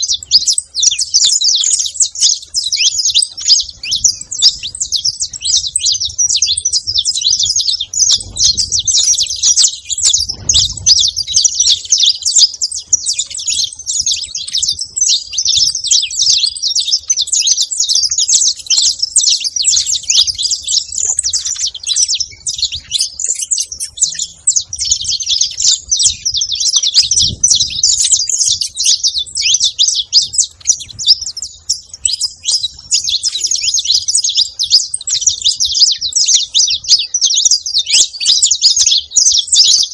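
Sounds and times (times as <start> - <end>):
finch singing twittering chirps: 0.0 - 39.9.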